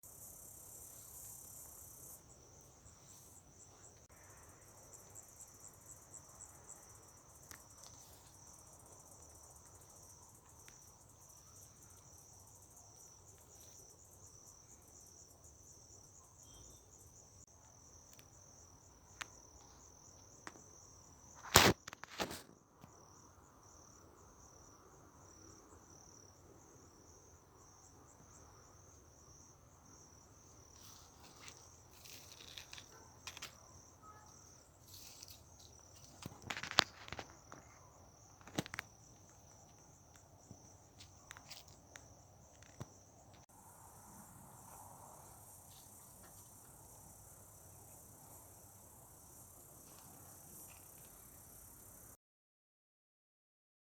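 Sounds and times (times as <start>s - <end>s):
crickets chirping: 0.0s - 52.2s.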